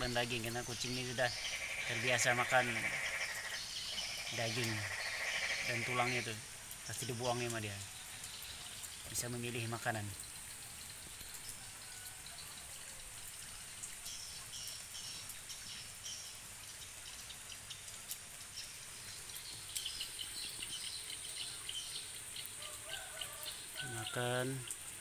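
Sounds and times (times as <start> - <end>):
birds chirping: 0.0 - 12.0, 14.0 - 24.8
light drizzle hiss: 0.0 - 25.0.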